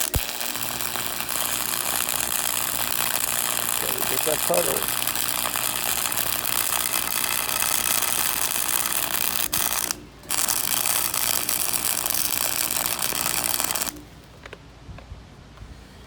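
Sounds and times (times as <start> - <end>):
welding arc crackle: 0.0 - 14.4.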